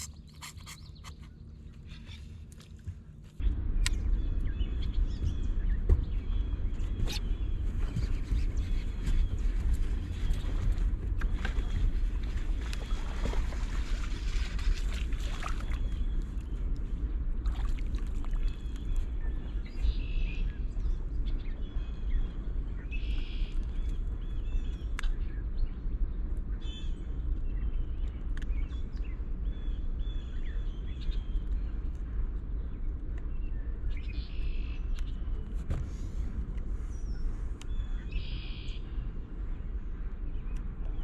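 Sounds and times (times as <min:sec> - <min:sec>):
birds chirping: 0:00.0 - 0:41.0
steady low rumble: 0:00.0 - 0:41.0.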